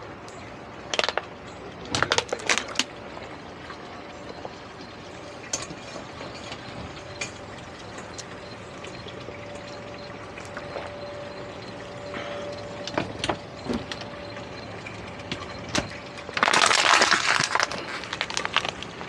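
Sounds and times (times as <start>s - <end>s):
pump water rushing: 0.0s - 19.0s.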